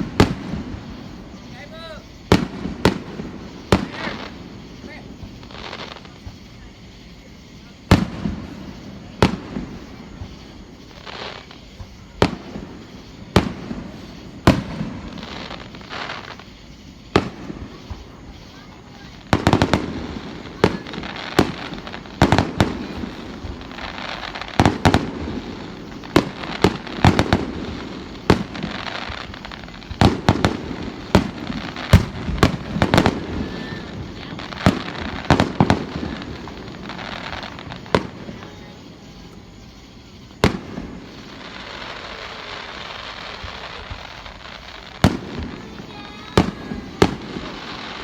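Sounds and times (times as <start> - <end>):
firework bangs: 0.0 - 48.0
firework crackling: 0.0 - 48.0.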